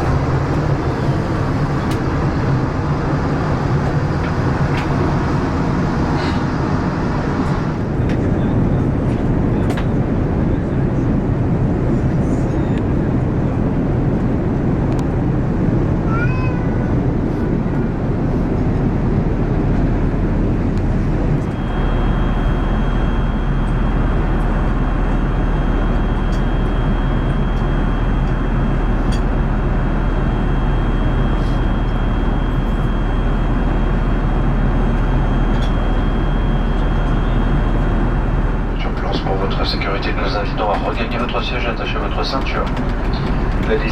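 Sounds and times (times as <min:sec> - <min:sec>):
airplane cabin engine roar: 0:00.0 - 0:43.9.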